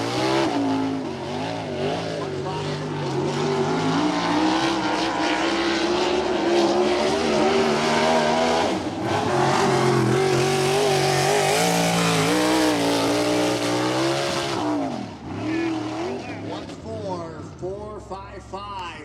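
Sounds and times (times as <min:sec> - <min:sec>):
race car engine running hard: 0:00.0 - 0:18.6.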